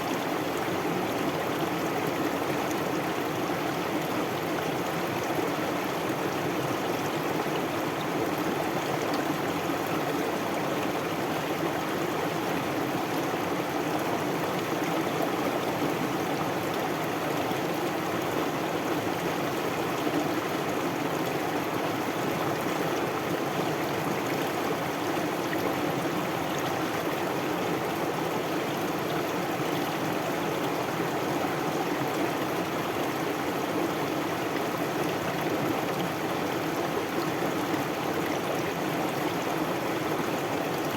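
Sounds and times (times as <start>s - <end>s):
stream water babbling: 0.0s - 40.9s.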